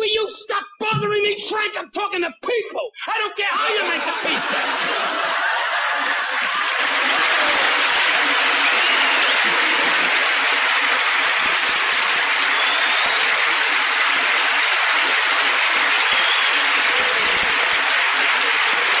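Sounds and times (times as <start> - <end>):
large audience applauding: 3.6 - 19.0.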